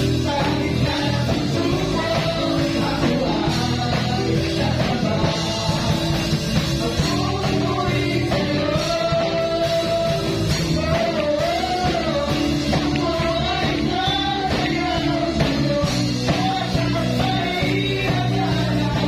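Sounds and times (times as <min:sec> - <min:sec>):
electric guitar: 0:00.0 - 0:19.0
keyboard: 0:00.0 - 0:19.0
man singing into a microphone: 0:00.0 - 0:19.0
steady drum beat: 0:00.0 - 0:19.0.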